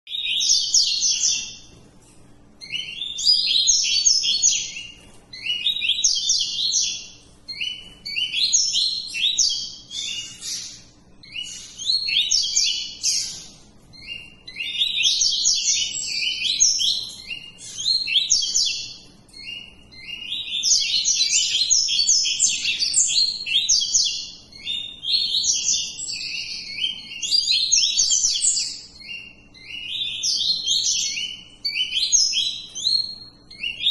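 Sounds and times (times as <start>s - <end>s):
bird singing rapid phrases: 0.1s - 33.9s.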